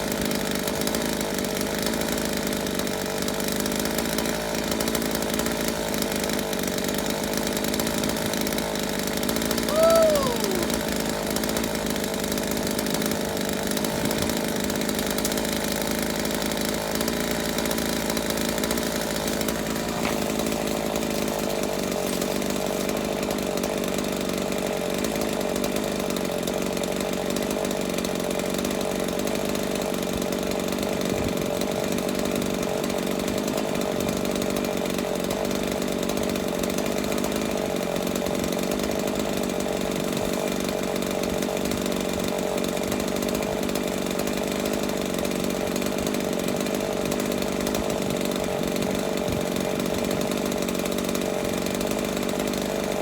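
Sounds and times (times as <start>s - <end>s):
chainsaw running steadily: 0.0s - 53.0s.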